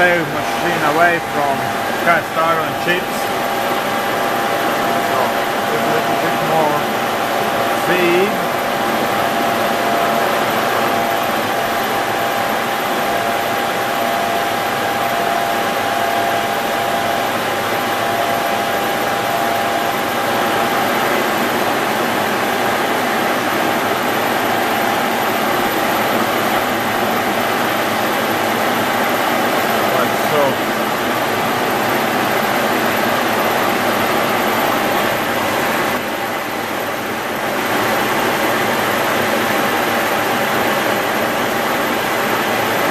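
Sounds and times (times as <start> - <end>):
milling machine cutting iron: 0.0 - 42.9
steady machine whine: 0.0 - 42.9.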